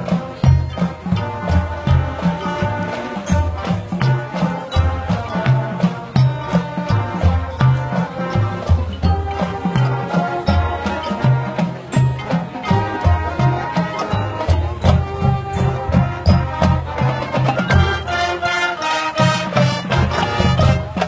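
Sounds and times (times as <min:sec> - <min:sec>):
drum and cymbal strikes: 0:00.0 - 0:21.0
marching band playing: 0:00.0 - 0:21.0.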